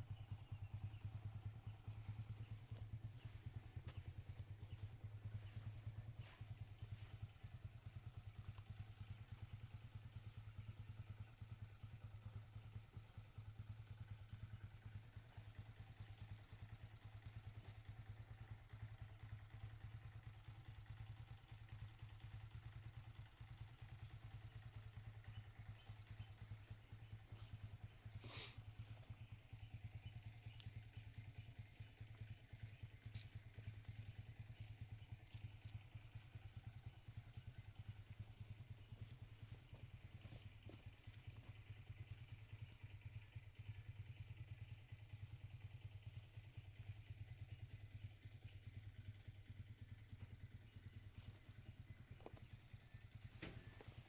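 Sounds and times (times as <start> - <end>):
diesel engine idling: 0.0 - 43.3.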